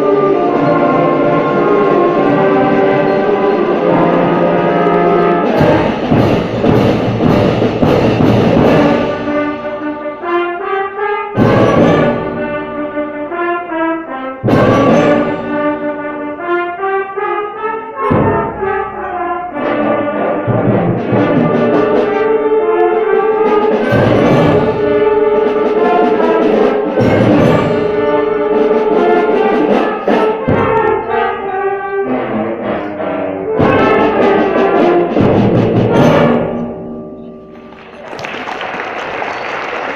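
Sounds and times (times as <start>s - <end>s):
brass-led orchestral music: 0.0s - 39.9s.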